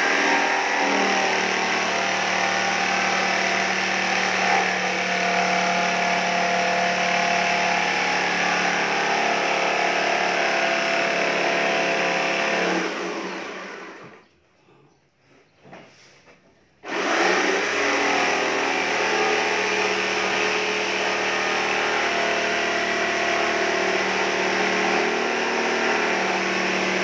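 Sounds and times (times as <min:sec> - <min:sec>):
electric jigsaw cutting plywood: 0:00.0 - 0:14.2, 0:16.8 - 0:27.0.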